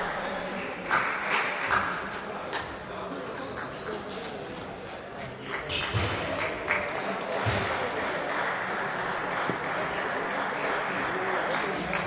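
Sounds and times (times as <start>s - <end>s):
murmur of voices: 0.0s - 12.0s.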